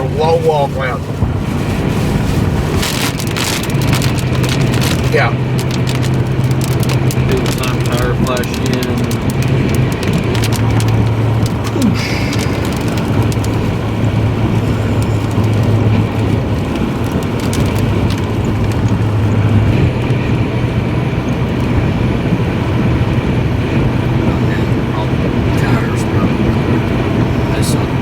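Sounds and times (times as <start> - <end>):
tyre and wind noise: 0.0 - 28.0
vehicle engine drone: 0.0 - 28.0.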